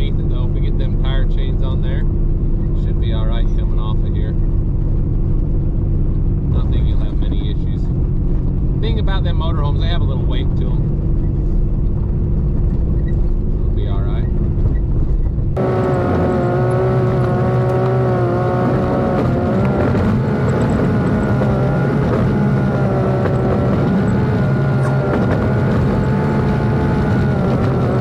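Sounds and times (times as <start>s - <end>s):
car engine running: 0.0s - 28.0s
tyre and road rumble: 0.0s - 28.0s.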